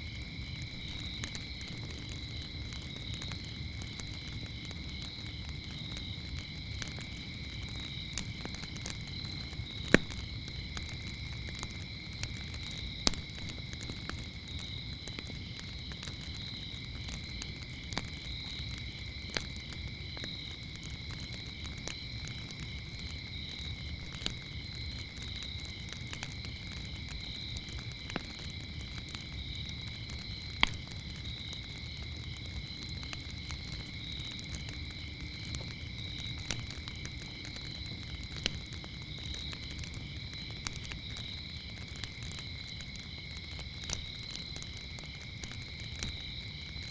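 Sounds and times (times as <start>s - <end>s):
burning wood crackling and popping: 0.0s - 46.9s
campfire low rumble: 0.0s - 46.9s
crickets chirping: 0.0s - 46.9s.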